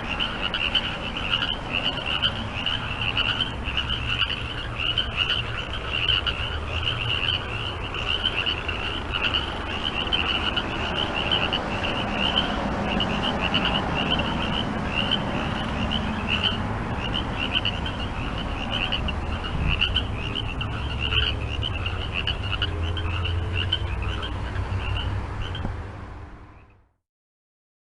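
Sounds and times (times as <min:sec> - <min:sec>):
frogs croaking: 0:00.0 - 0:25.9, 0:26.5 - 0:26.9
steady low rumble: 0:00.0 - 0:26.6.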